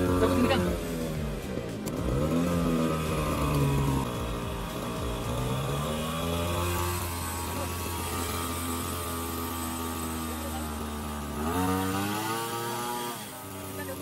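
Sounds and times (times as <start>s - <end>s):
two-stroke engine running unevenly: 0.0s - 14.0s.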